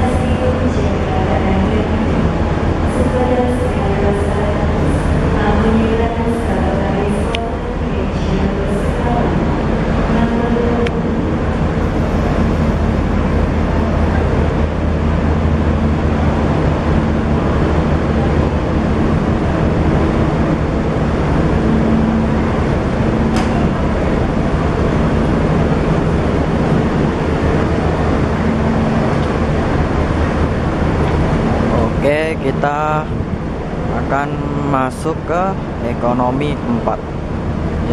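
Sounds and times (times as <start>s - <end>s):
diesel train engines running: 0.0s - 37.9s.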